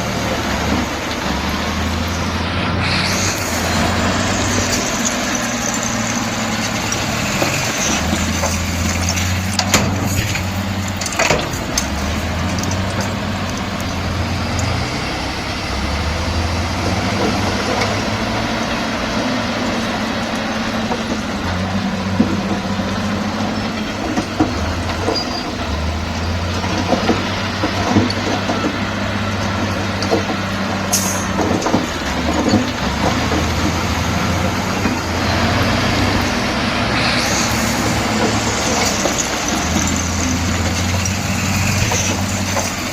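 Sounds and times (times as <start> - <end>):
heavy diesel engine droning: 0.0 - 42.9.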